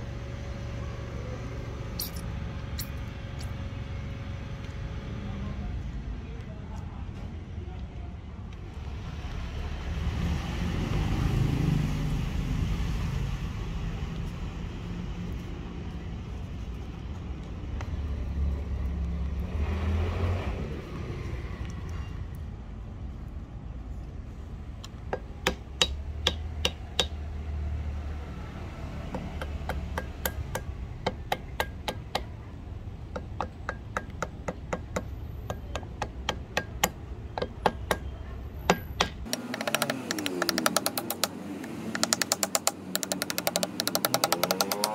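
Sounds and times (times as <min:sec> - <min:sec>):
passing vehicle rumble: 0:08.6 - 0:44.9.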